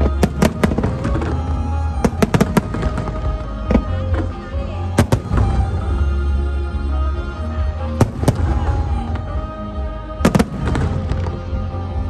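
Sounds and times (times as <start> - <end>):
music: 0.0 - 12.0.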